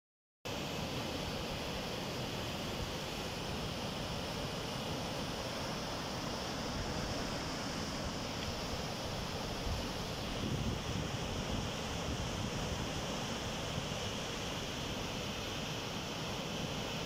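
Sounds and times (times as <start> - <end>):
river rushing: 0.5 - 17.0.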